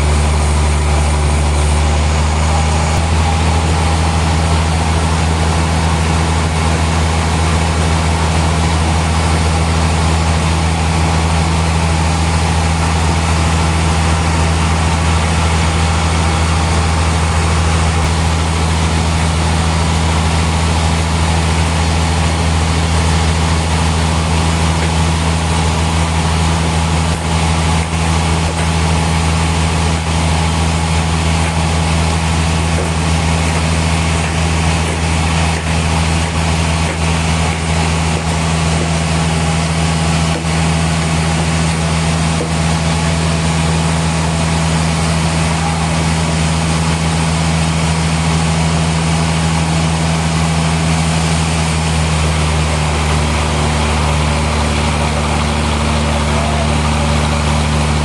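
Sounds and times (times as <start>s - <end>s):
sawmill machinery droning: 0.0s - 58.0s.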